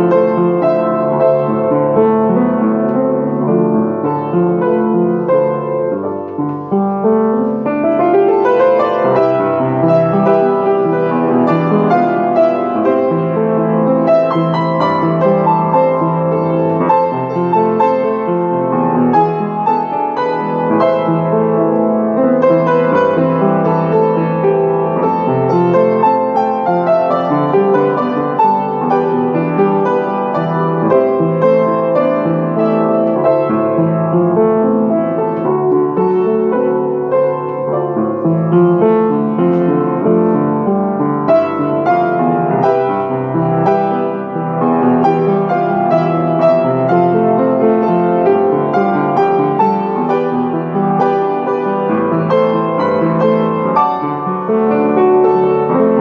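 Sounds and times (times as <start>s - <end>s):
solo upright piano: 0.0s - 56.0s.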